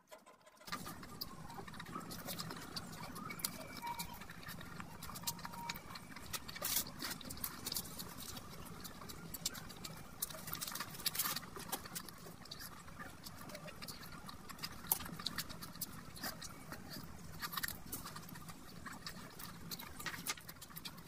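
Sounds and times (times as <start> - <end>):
wet chewing and lip smacks: 0.7 - 21.0.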